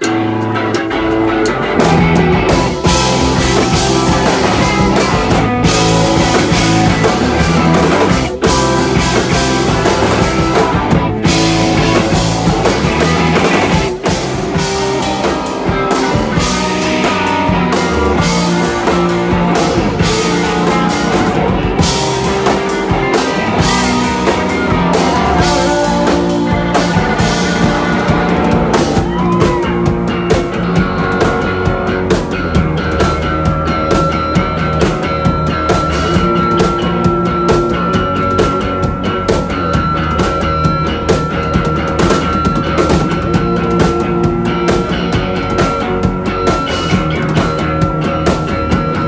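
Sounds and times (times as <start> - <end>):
rock band playing: 0.0 - 49.0.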